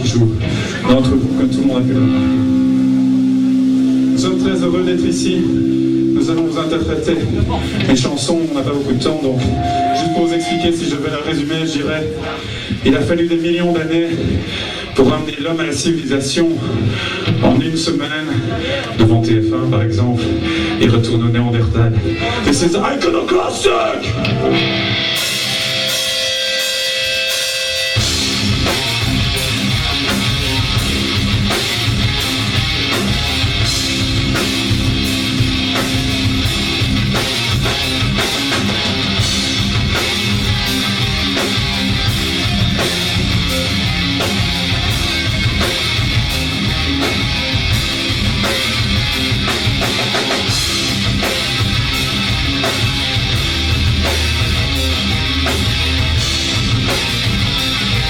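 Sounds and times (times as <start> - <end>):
held guitar notes: 0.0 - 14.4, 18.3 - 22.5, 24.0 - 58.0
rock band playing: 0.0 - 58.0.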